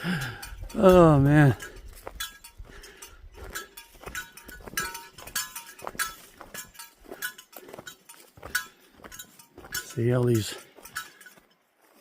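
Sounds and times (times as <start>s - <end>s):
small metal object clinking: 0.0s - 11.7s
walking footsteps: 0.1s - 12.0s.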